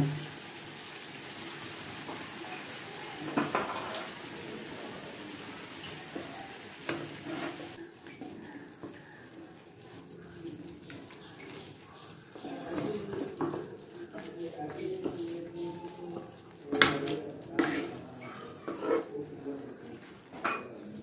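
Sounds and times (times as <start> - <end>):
fish sizzling in frying pan: 0.0 - 21.0
wooden spatula stirring: 3.3 - 20.8.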